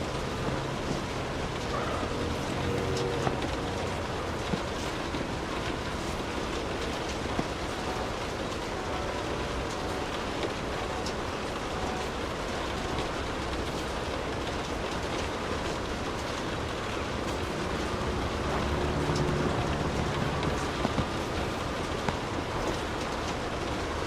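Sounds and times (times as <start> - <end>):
low hum: 0.0 - 13.4, 16.1 - 23.5
steady rain: 0.0 - 24.0.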